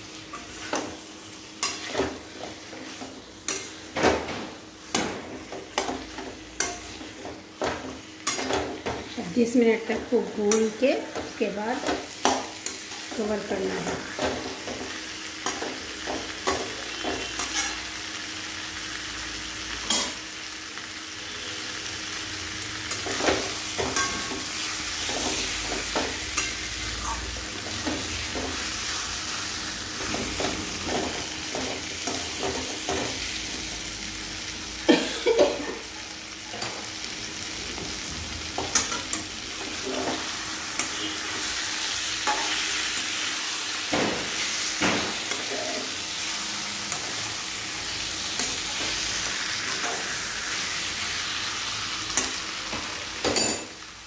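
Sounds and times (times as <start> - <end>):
chicken sizzling in a pan: 0.0 - 54.0.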